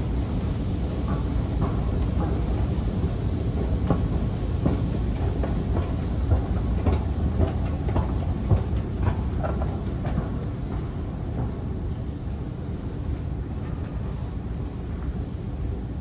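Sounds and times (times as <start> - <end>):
metro train rumbling: 0.0 - 16.0
train clacks and knocks: 0.0 - 16.0.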